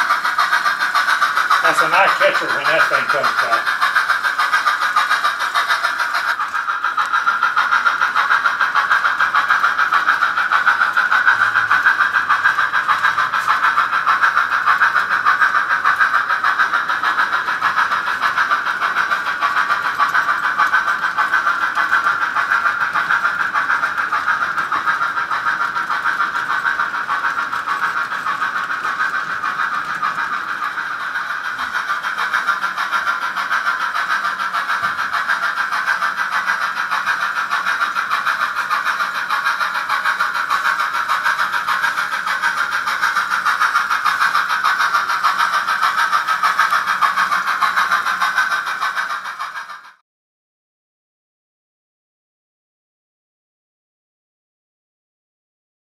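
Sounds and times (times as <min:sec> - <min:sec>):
model train running on track: 0:00.0 - 0:50.0.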